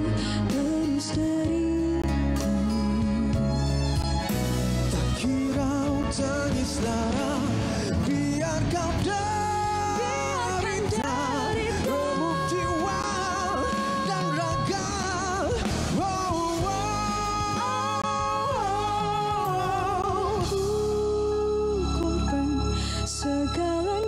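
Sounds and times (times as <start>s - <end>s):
man and woman singing duet: 0.0s - 3.6s, 5.1s - 24.0s
backing music: 0.0s - 24.0s.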